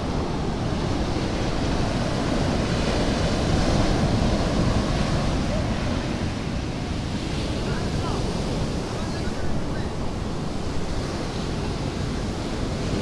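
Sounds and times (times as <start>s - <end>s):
surf breaking on beach: 0.0s - 13.0s
wind on microphone: 0.0s - 13.0s.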